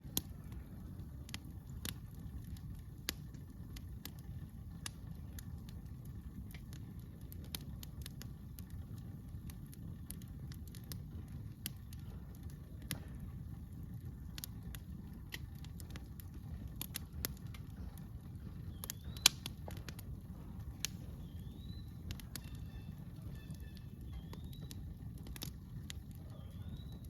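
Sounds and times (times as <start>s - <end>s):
campfire crackling and popping: 0.0s - 27.0s
low steady rumble: 0.0s - 27.0s.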